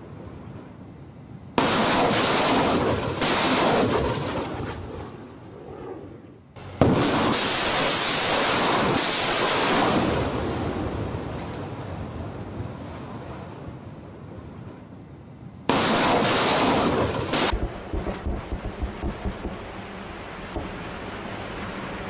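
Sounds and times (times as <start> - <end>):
rockets launching roar: 1.6 - 13.8, 15.6 - 22.0.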